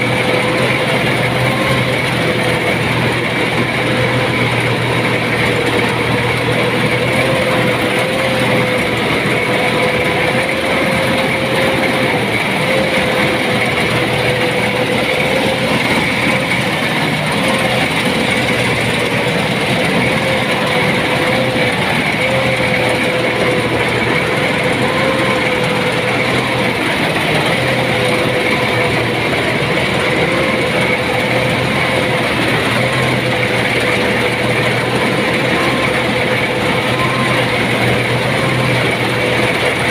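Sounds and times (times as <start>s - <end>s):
combine harvester running: 0.0s - 39.9s
wavering machine whine: 0.0s - 39.9s.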